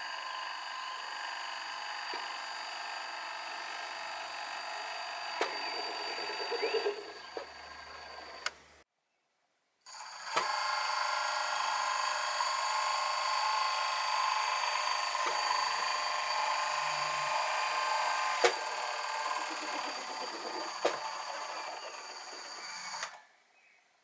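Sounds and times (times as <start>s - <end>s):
small electric motor whining: 0.0s - 8.8s, 9.9s - 23.2s.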